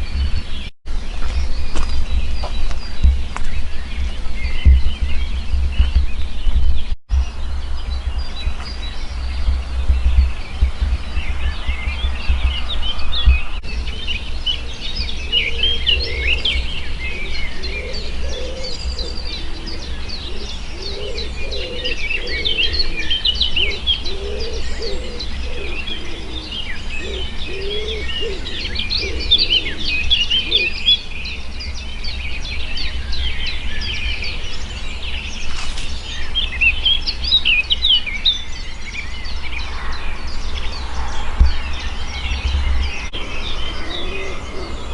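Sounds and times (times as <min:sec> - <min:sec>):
low repeated bird call: 0:00.0 - 0:44.9
songbirds trilling and chirping: 0:00.0 - 0:44.9
steady low rumble: 0:00.0 - 0:44.9.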